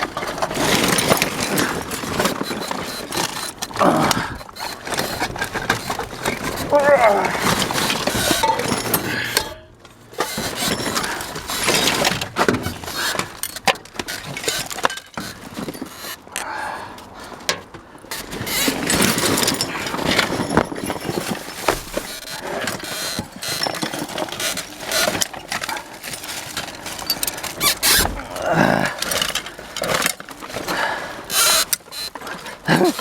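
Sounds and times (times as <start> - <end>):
scrap metal clattering in dumpster: 0.0 - 16.3, 17.4 - 33.0.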